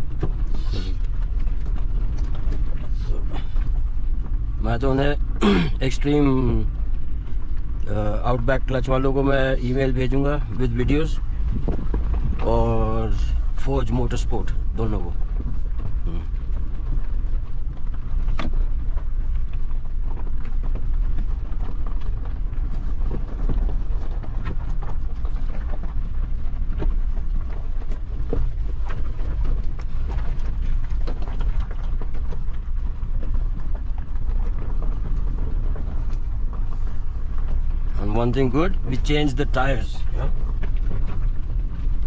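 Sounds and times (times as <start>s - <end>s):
car engine and road rumble: 0.0s - 42.0s
knocks and rattles: 6.0s - 42.0s.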